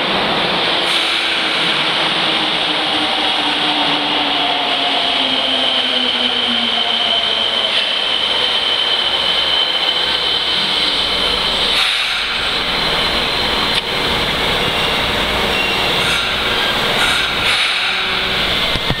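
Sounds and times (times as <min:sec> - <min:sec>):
train high whine: 0:00.0 - 0:19.0
train wheels rumbling on rail: 0:00.0 - 0:19.0.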